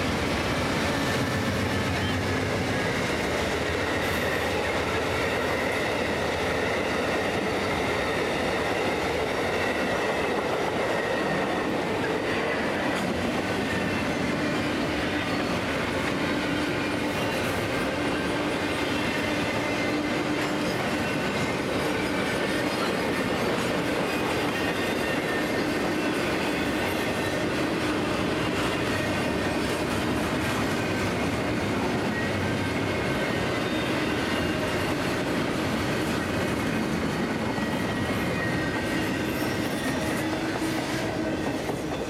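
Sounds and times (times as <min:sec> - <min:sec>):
train wheels clattering on rails: 0:00.0 - 0:42.0.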